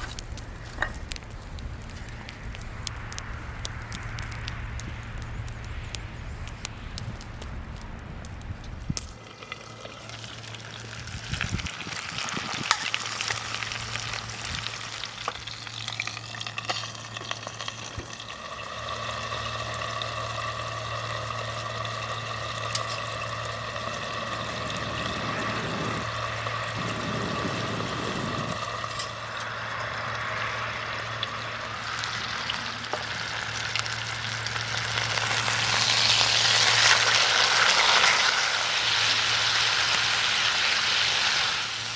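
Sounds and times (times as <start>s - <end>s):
meat sizzling in a pan: 0.0s - 41.9s.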